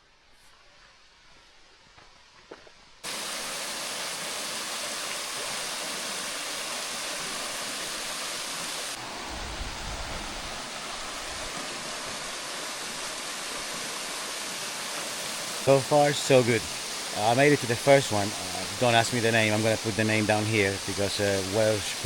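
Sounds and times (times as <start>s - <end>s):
small waterfall rushing: 3.0s - 22.0s.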